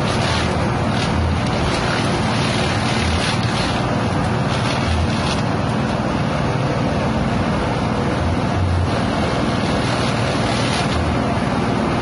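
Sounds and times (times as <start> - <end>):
chopping machine engine drone: 0.0 - 12.0.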